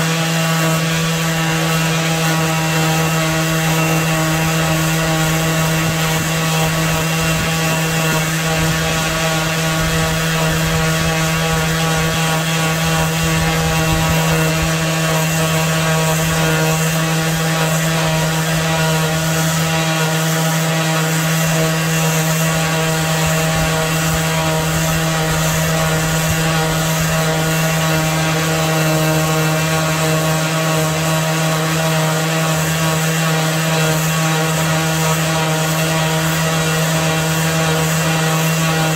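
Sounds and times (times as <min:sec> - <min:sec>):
palm sander running on wood: 0:00.0 - 0:38.9.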